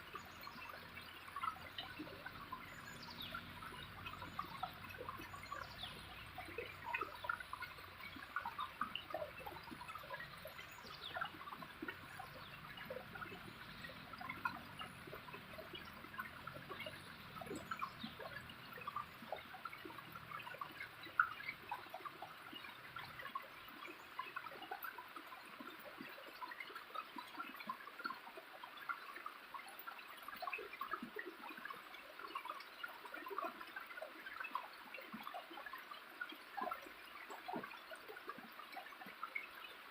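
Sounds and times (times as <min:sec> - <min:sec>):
small drips and splashes: 0:00.0 - 0:39.9.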